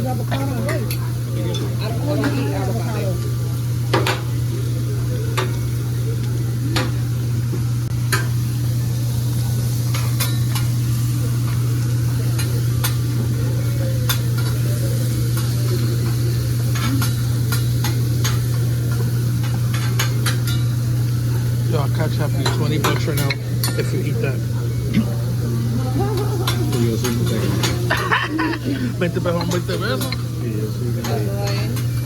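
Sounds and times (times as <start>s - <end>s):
griddle sizzling: 0.0s - 32.0s.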